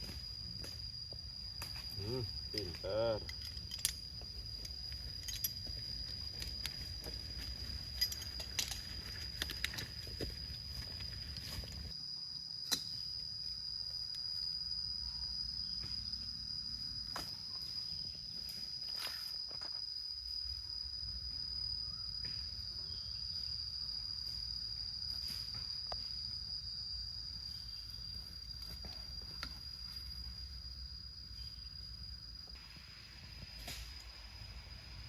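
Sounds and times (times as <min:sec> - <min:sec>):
insects high-pitched drone: 0:00.0 - 0:35.0.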